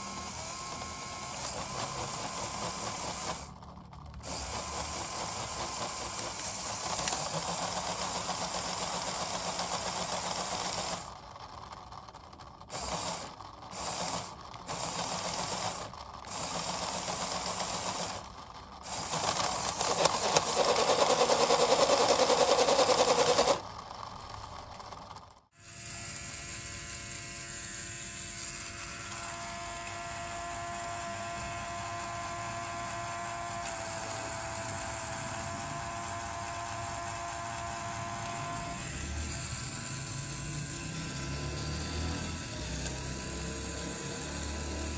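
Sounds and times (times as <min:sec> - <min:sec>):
plastic gears whirring: 0:00.0 - 0:44.9
thin gear whine: 0:00.0 - 0:44.9.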